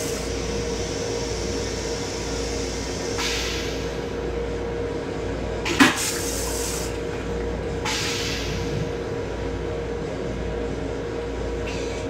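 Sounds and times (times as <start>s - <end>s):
train hum: 0.0s - 12.0s.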